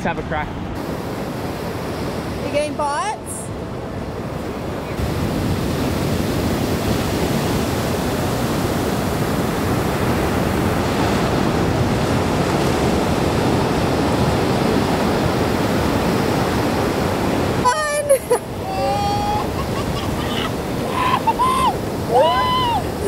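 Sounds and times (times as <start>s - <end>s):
waves breaking and washing in: 0.0s - 23.0s.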